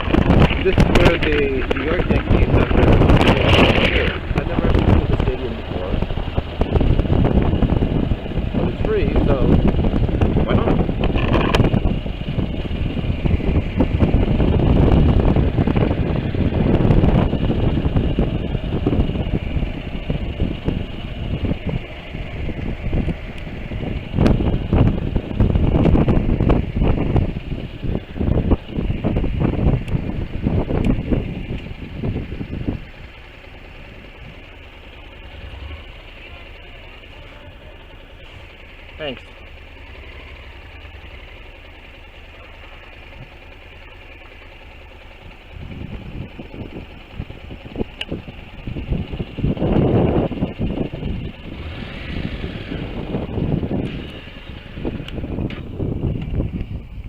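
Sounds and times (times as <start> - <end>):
wind buffeting microphone: 0.0 - 35.9, 44.6 - 57.0
motorcycle running: 0.0 - 57.0.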